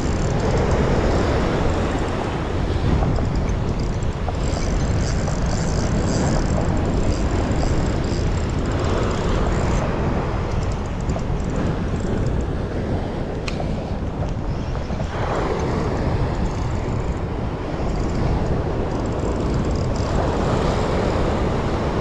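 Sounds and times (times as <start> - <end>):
surf on a beach: 0.0 - 22.0
wind buffeting microphone: 0.0 - 22.0.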